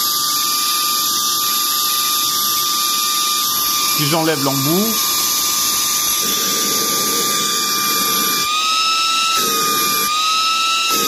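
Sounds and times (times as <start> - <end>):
handheld vacuum whine: 0.0 - 11.0.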